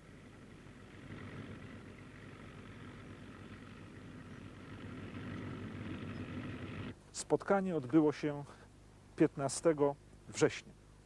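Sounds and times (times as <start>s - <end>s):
propeller plane engines droning: 0.0s - 10.3s.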